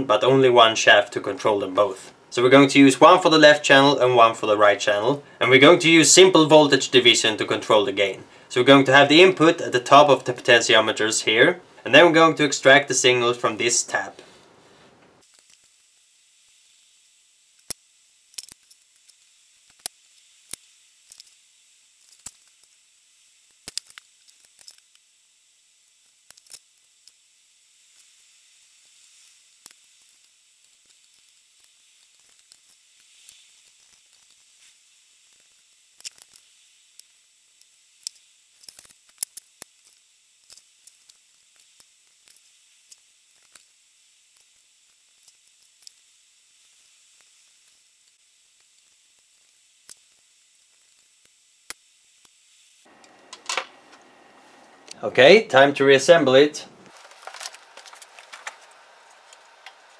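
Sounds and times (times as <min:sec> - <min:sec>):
faint hiss: 0:00.0 - 0:59.9
solder flux sizzling: 0:00.0 - 0:59.9.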